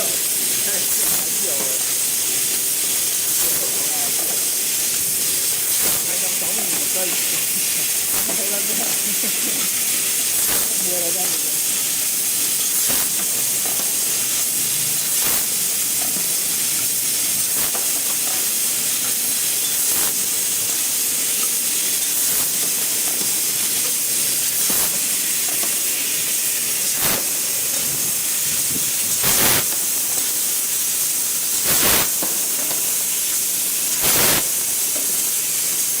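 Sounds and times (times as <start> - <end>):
short hiss bursts: 0.0 - 35.4
laser cutting machine hiss: 0.0 - 36.0.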